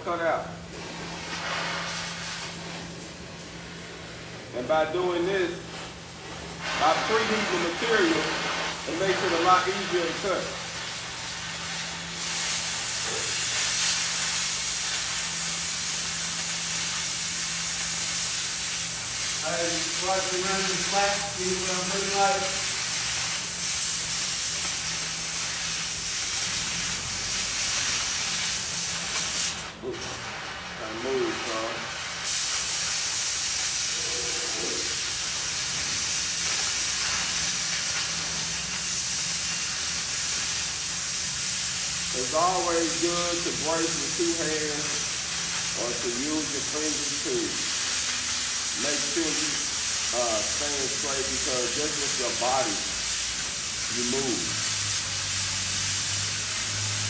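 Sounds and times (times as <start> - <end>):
cutting torch flame hissing: 0.0 - 57.0.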